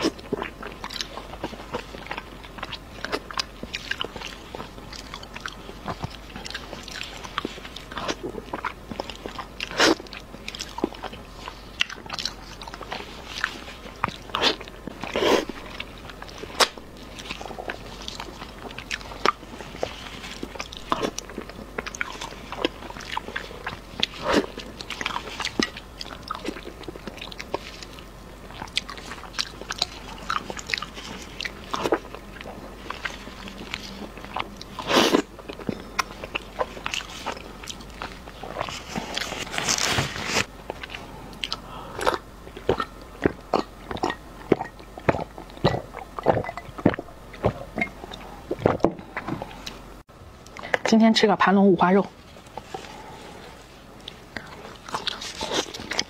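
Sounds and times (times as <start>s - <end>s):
person chewing meat: 0.0s - 50.6s, 52.2s - 56.0s.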